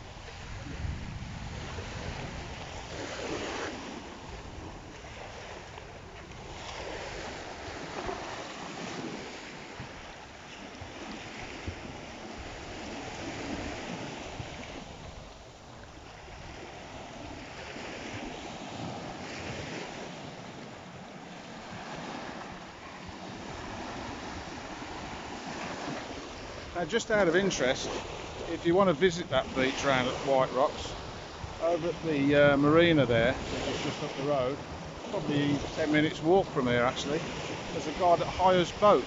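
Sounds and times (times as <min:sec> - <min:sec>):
wind on microphone: 0:00.0 - 0:26.8, 0:27.9 - 0:39.0
waves washing onto beach: 0:00.0 - 0:39.0.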